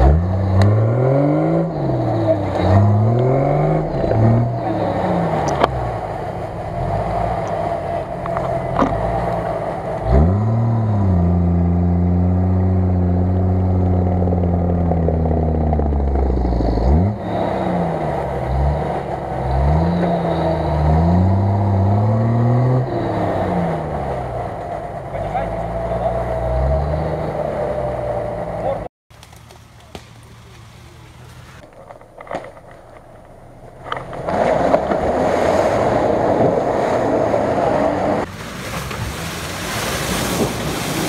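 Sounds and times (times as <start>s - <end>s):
suv engine revving: 0.0s - 28.9s, 29.9s - 41.0s.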